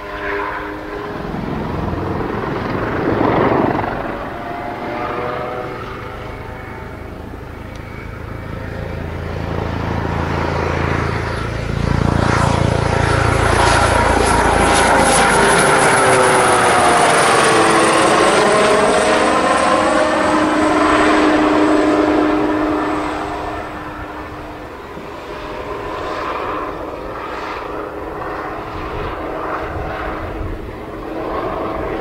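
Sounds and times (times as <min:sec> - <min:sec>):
helicopter rotor beating: 0:00.0 - 0:32.0
turbine engine whine: 0:00.0 - 0:32.0.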